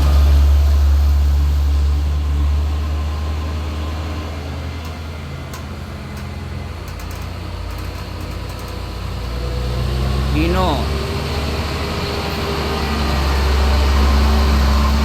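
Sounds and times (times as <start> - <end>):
diesel truck engine under load: 0.0 - 15.0.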